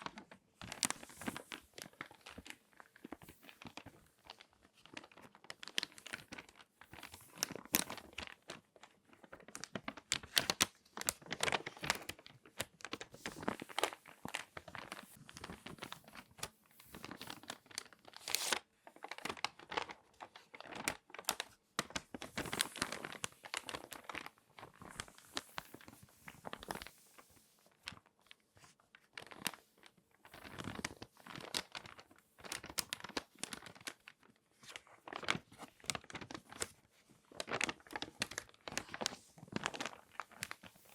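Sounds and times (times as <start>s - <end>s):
magazine pages crinkling: 0.0s - 40.9s.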